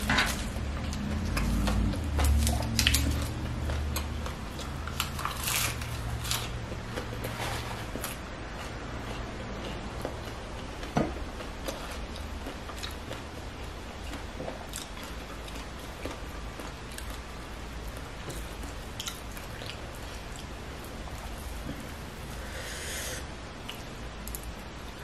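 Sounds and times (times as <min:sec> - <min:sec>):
person chewing food: 0:00.0 - 0:24.6.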